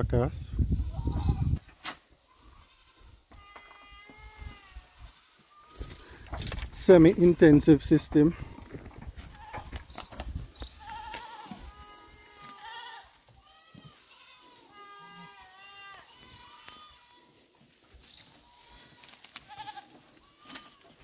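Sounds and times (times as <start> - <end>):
goats bleating: 0.8 - 1.6, 2.2 - 6.2, 6.9 - 9.8, 10.7 - 17.5, 18.2 - 21.0.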